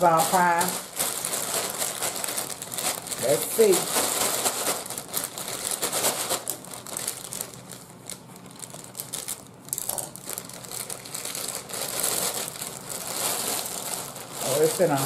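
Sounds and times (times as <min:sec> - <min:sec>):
plastic mailer bag crinkling: 0:00.0 - 0:15.0.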